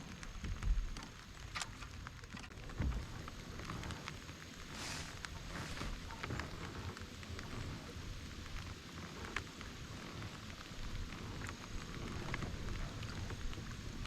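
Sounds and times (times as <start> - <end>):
low uneven rumble: 0.0 - 14.0
rain falling: 0.0 - 14.0.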